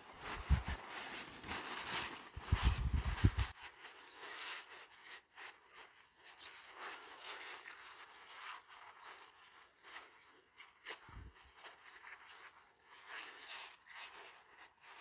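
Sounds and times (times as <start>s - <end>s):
paper towel rubbing on metal: 0.0s - 15.0s.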